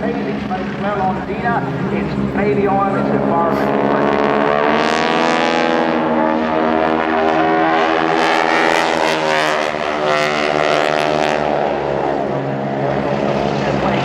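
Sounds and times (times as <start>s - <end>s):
propeller planes droning past: 0.0s - 14.0s.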